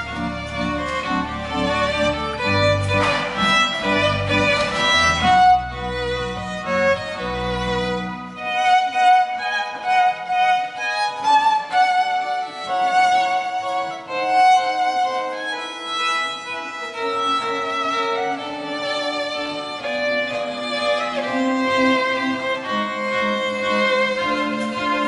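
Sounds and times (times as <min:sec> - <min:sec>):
pipe organ: 0:00.0 - 0:25.0
violin melody: 0:00.0 - 0:25.0.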